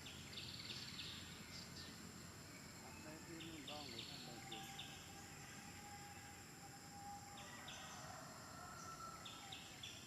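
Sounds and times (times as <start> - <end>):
insects buzzing: 0.0 - 10.0.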